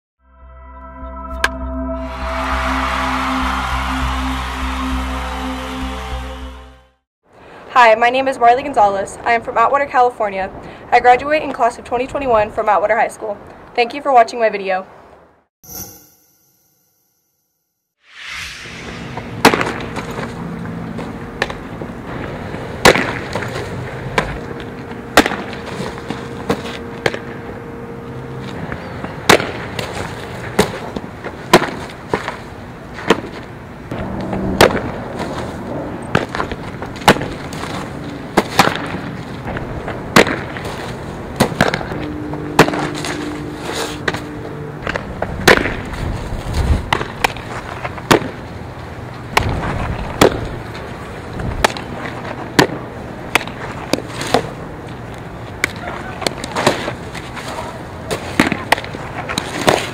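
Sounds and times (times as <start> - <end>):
outdoor background noise: 7.2 - 15.4, 18.1 - 59.9.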